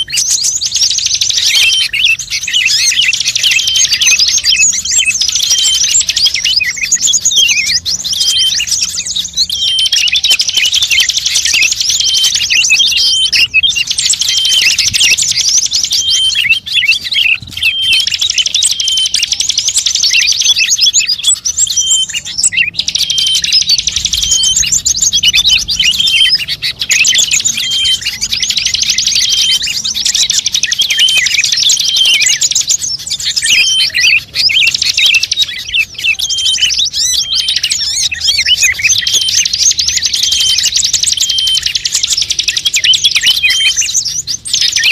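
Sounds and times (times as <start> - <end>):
songbird chirps and trills: 0.0 - 44.9.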